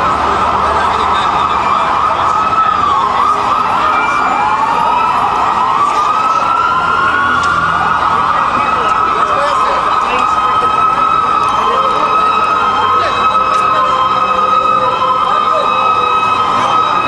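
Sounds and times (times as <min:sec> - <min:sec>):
city street noise: 0:00.0 - 0:17.0
emergency sirens wailing: 0:00.0 - 0:17.0.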